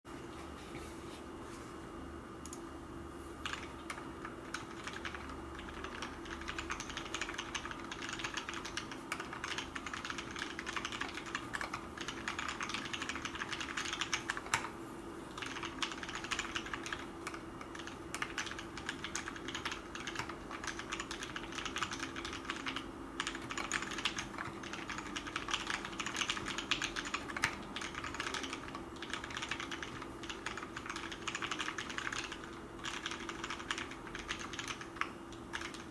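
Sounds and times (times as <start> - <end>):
fast typing on mechanical keyboard: 3.4 - 14.7, 15.3 - 35.9.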